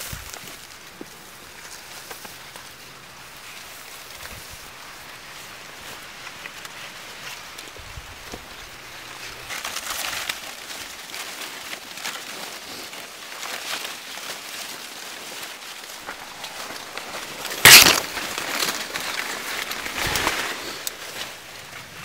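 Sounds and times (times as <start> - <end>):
corn leaves rustling: 0.0 - 22.0
footsteps in cornfield: 0.0 - 22.0.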